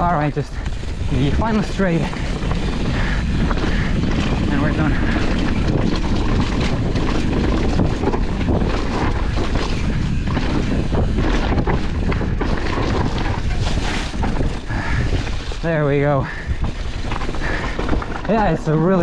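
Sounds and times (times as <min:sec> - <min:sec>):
bike knocks and rattles: 0:00.0 - 0:19.0
bike tyres rumbling: 0:00.0 - 0:19.0
wind buffeting microphone: 0:00.0 - 0:19.0.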